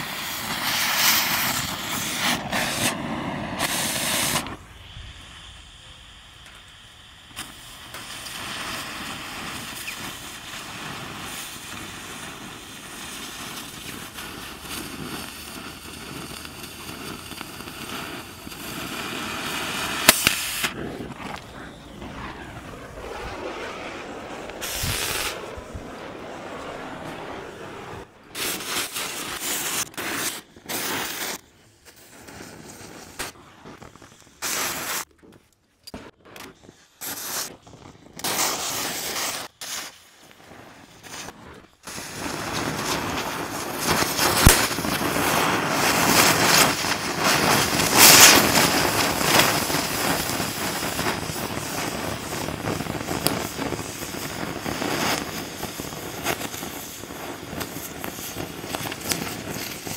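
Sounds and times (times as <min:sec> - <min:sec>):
torch sharp pop: 0:00.0 - 0:05.5, 0:06.3 - 0:11.9, 0:12.9 - 0:32.4, 0:36.4 - 0:40.0, 0:41.0 - 0:59.9
cutting torch hissing: 0:00.0 - 0:35.1, 0:36.4 - 0:59.9.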